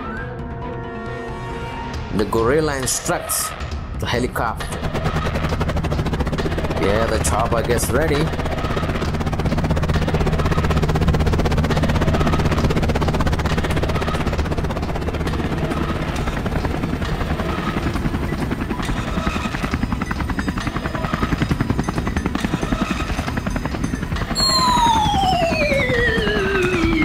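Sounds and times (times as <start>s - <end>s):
helicopter rotor blades chopping: 2.1s - 27.0s.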